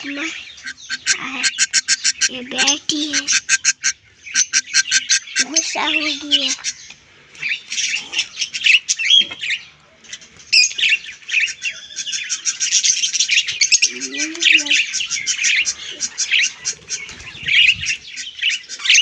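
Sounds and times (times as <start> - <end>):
parrots chirping: 0.0 - 9.7, 10.5 - 19.0.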